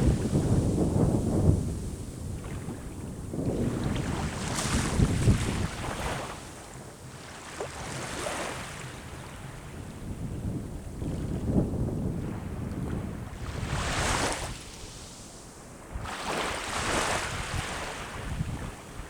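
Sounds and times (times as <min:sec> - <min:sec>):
wind buffeting microphone: 0:00.0 - 0:06.8, 0:07.8 - 0:19.0
waves washing onto shore: 0:00.0 - 0:10.1, 0:10.8 - 0:19.0.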